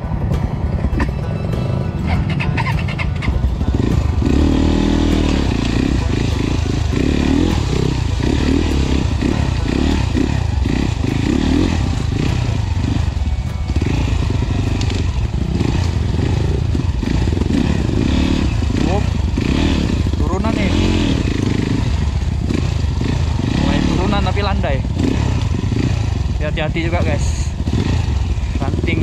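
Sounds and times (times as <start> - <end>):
dirt bike engine revving: 1.6 - 29.0.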